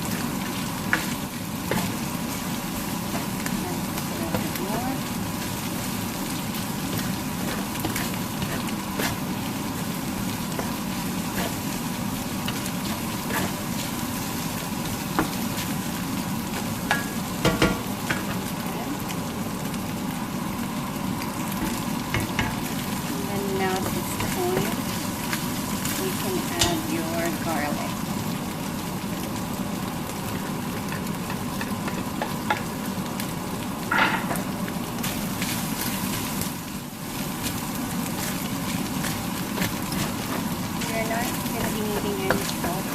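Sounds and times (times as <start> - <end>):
meat sizzling in a pan: 0.0 - 42.9.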